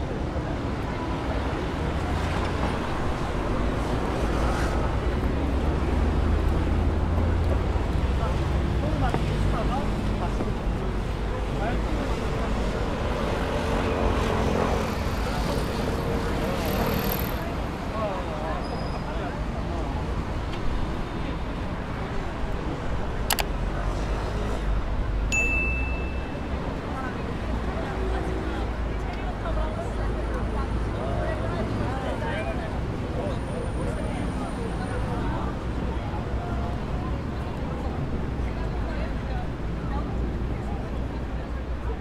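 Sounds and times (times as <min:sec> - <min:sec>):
city ambience rumble: 0:00.0 - 0:42.0.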